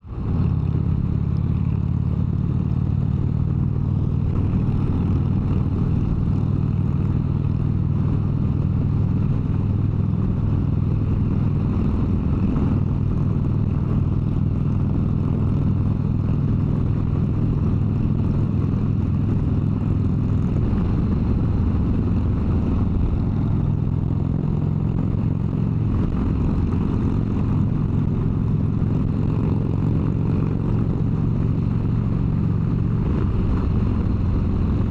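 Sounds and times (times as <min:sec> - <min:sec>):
motorcycle engine running steadily: 0:00.0 - 0:34.9.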